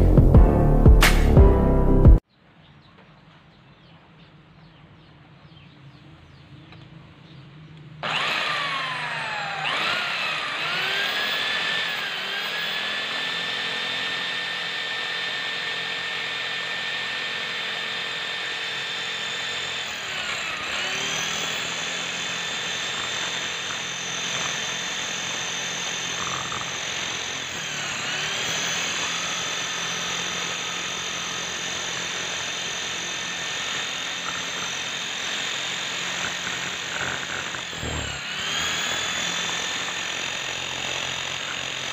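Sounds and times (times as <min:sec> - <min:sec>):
electric drill boring into steel: 0:08.0 - 0:41.9.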